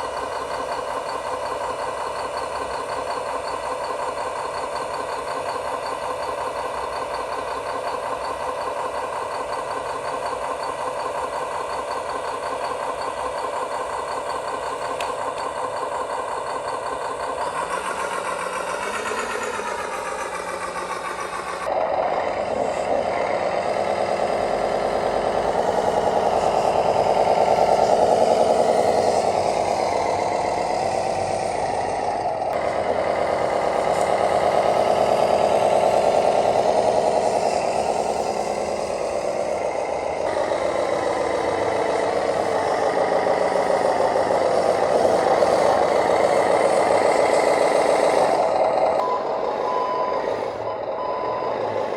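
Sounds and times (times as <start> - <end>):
remote control machine droning: 0.0 - 51.9.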